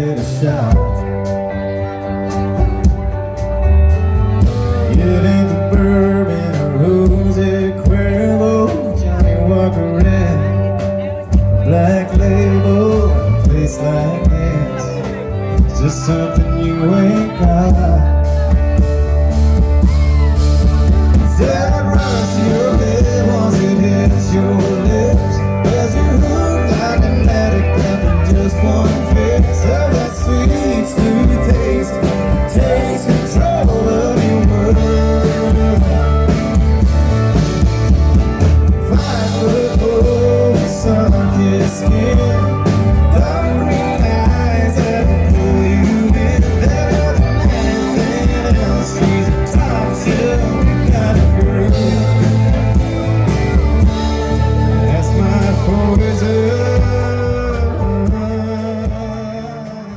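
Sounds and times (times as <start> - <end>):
country band playing: 0.0 - 59.9
heavy bass line: 0.0 - 59.9.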